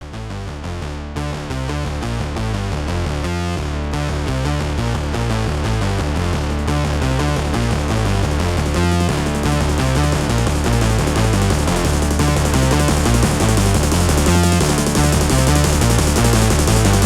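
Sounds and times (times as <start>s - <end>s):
steady bass line: 0.0s - 17.0s
electronic synthesizer music: 3.2s - 17.0s.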